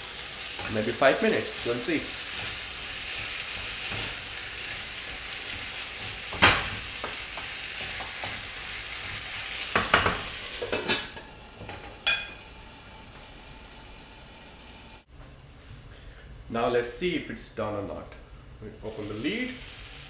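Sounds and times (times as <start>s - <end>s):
potatoes sizzling in pan: 0.0s - 15.1s, 18.7s - 20.0s.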